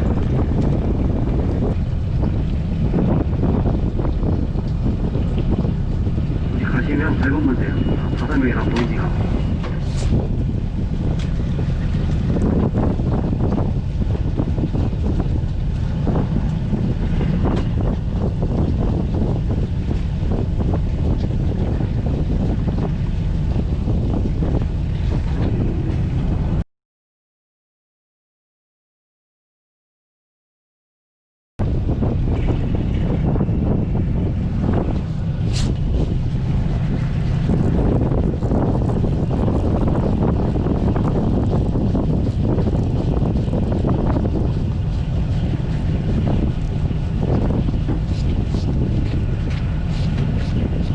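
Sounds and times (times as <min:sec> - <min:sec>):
boat engine running: 0:00.0 - 0:26.6, 0:31.6 - 0:50.9
wind buffeting microphone: 0:00.0 - 0:26.6, 0:31.6 - 0:50.9.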